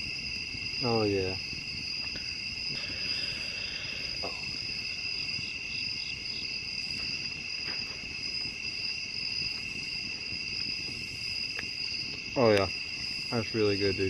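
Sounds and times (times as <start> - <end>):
crickets trilling: 0.0 - 14.0
insect pulsing: 0.0 - 14.0.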